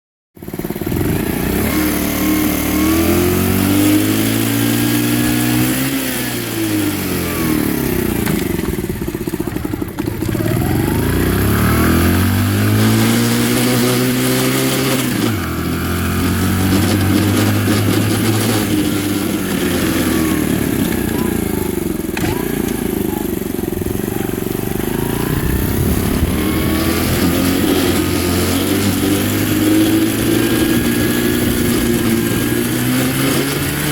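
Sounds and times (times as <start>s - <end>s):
engine rattling and vibrating: 0.4s - 33.9s
minibike engine revving: 0.4s - 33.9s.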